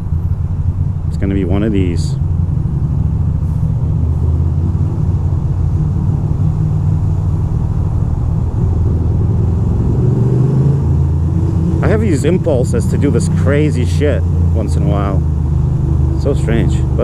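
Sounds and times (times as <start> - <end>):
motorcycle engine cruising: 0.0 - 17.0
wind and road noise rumble: 0.0 - 17.0.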